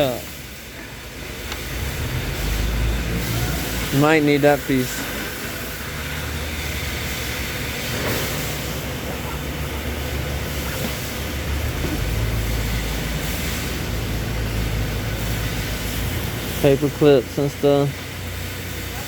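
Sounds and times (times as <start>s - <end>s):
low mechanical hum: 0.0s - 19.0s
even hiss: 1.6s - 19.0s.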